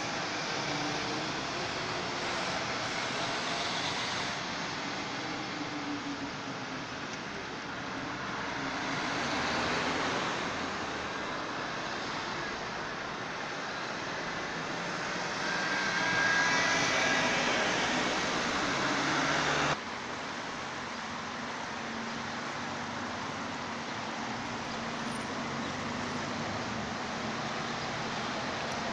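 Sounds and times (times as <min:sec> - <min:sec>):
road traffic rumble: 0:00.0 - 0:28.9.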